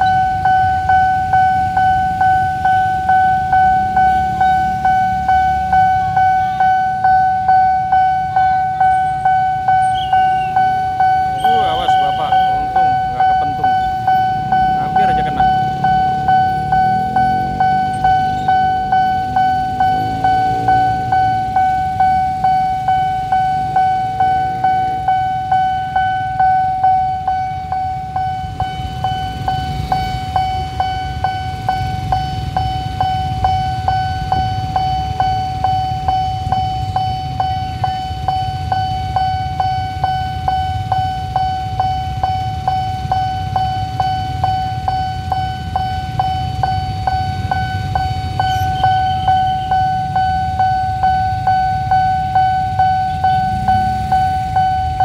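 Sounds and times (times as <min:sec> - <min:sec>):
level crossing warning bell: 0:00.0 - 0:55.0
motorbike engines idling: 0:00.0 - 0:55.0.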